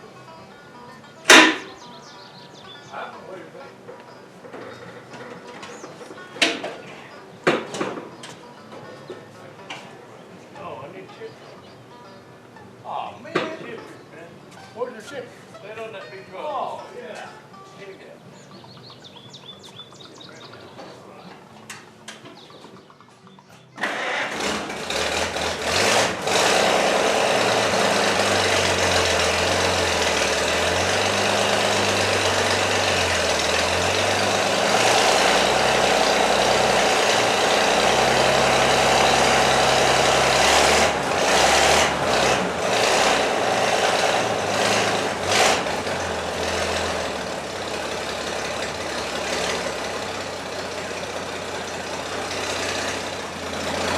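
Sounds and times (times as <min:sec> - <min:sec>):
truck engine starting and idling: 0:00.0 - 0:16.1, 0:18.4 - 0:53.9.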